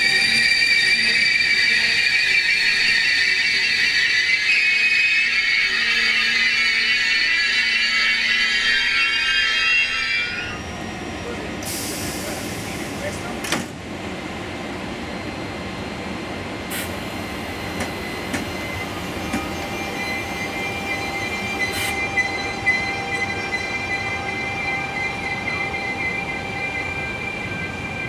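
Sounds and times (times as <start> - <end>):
train coaches rumbling: 0.0 - 28.0.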